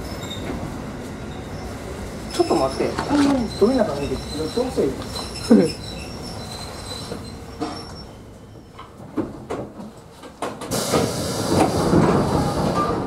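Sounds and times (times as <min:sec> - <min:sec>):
train doors rattling open: 0:00.0 - 0:13.0.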